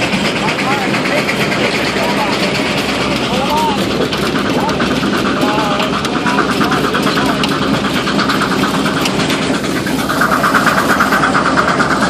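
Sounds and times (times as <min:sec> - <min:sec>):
fast pulsing rattle: 0:00.0 - 0:12.0
steam traction engine pulling plow: 0:00.0 - 0:12.0.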